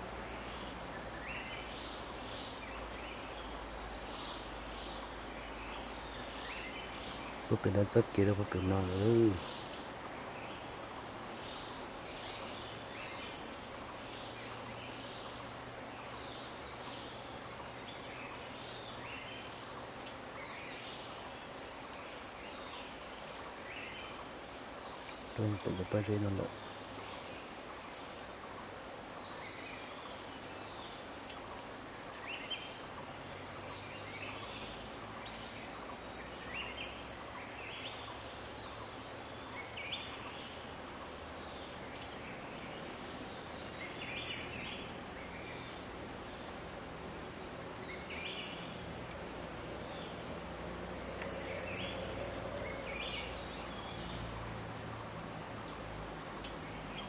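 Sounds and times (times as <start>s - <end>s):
insect chorus drone: 0.0s - 57.0s
short insect chirps: 0.0s - 57.0s.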